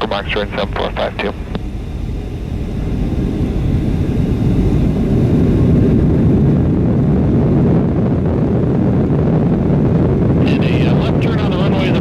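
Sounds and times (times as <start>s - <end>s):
jet engines roaring in cabin: 0.0s - 12.0s
rushing air: 1.3s - 11.1s.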